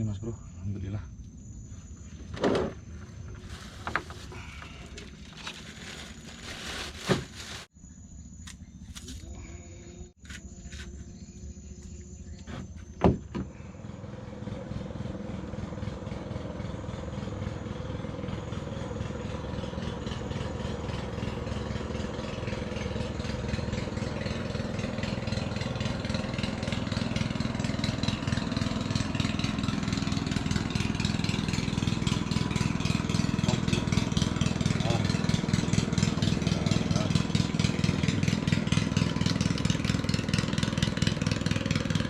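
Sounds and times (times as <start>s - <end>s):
small boat engine running: 0.6s - 42.0s.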